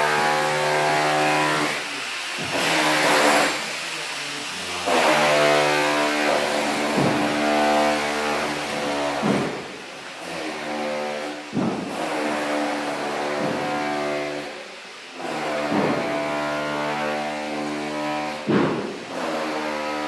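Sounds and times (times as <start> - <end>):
hiss: 0.0 - 16.6.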